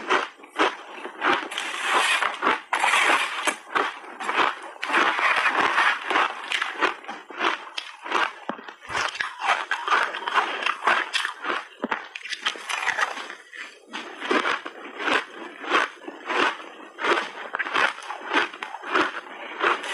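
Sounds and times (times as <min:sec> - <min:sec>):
chewing crunchy ice: 0:00.0 - 0:19.9.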